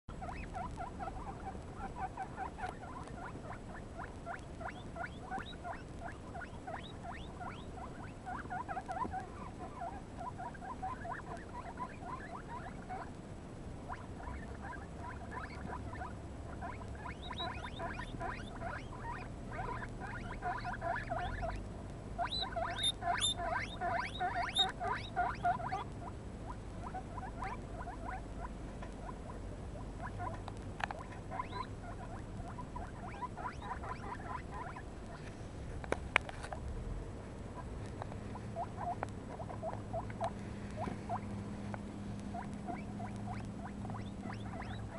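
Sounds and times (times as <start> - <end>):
guinea pigs squeaking: 0.1 - 13.2, 13.8 - 21.6, 22.2 - 35.3, 37.5 - 41.4, 42.2 - 44.9.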